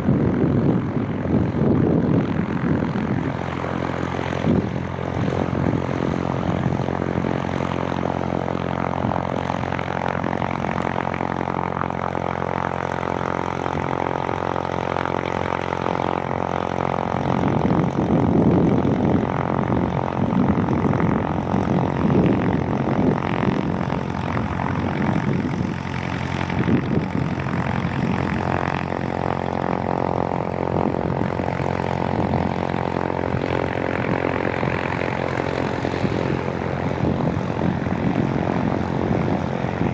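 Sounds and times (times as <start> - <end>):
propeller aircraft engine: 0.0 - 39.9.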